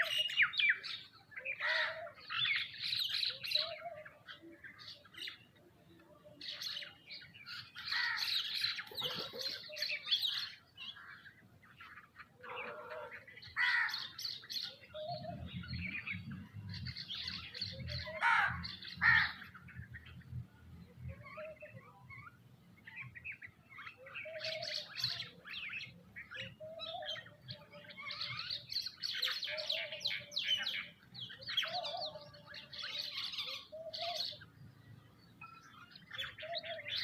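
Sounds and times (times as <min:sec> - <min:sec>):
birds chirping and squawking: 0:00.0 - 0:37.0.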